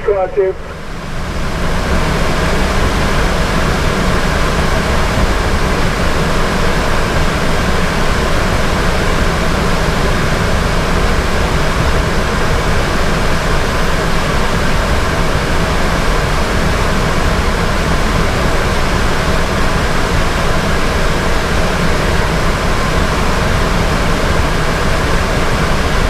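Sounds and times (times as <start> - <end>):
diesel engine rumble from inside cab: 0.0 - 26.0.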